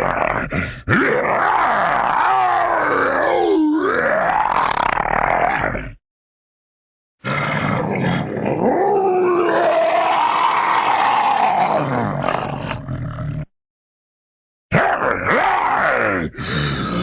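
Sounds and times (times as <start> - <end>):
cartoon monster roar: 0.0 - 6.0, 7.2 - 13.3, 14.7 - 17.0.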